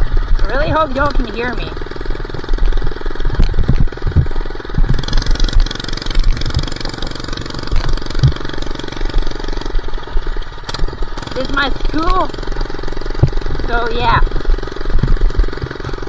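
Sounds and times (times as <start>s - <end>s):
low thumps: 0.0s - 16.0s
minibike engine running: 0.0s - 16.0s.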